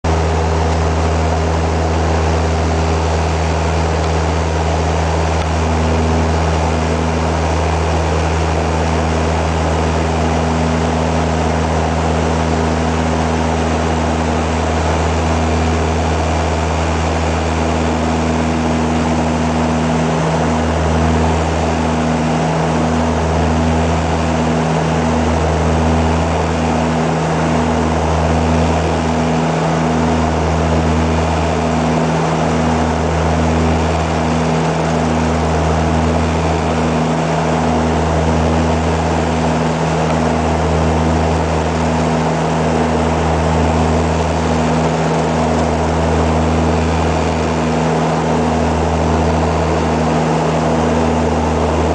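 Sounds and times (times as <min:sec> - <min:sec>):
turboprop cabin drone: 0:00.0 - 0:51.9.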